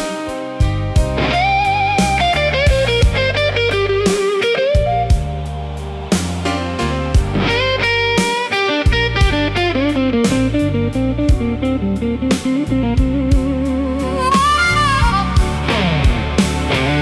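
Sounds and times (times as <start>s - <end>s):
bass: 0.0s - 17.0s
drums: 0.0s - 17.0s
electric guitar lead: 0.0s - 17.0s.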